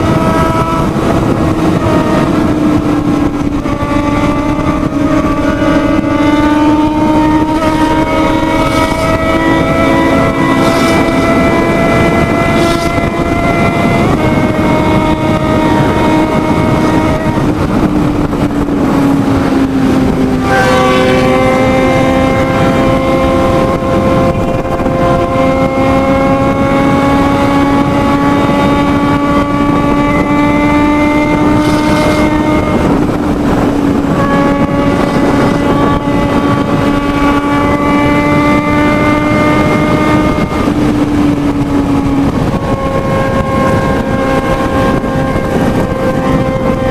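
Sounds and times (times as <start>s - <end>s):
motorcycle engine accelerating: 0.0s - 46.9s
wind rush: 0.0s - 46.9s.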